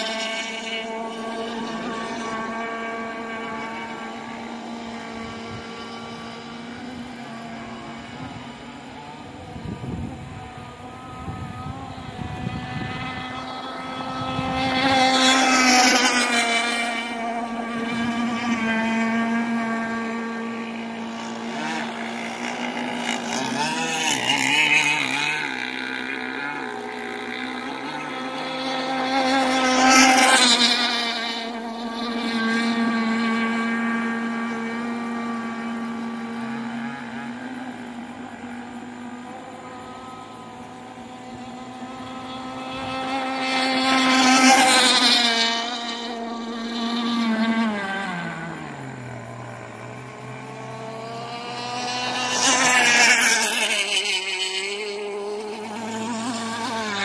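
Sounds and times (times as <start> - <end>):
small boat engines whining: 0.0 - 57.0.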